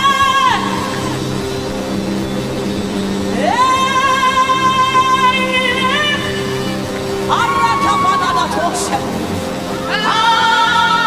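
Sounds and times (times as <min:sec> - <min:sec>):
sustained backing chord: 0:00.0 - 0:11.0.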